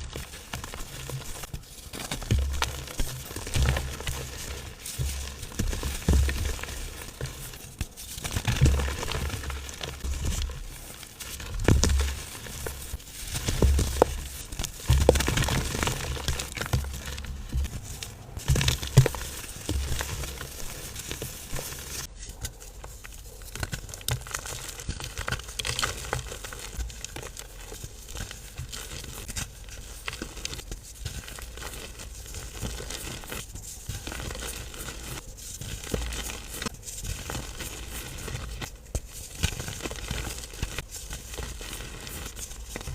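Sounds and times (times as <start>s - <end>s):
powder blocks crunching by hand: 0.0s - 42.9s.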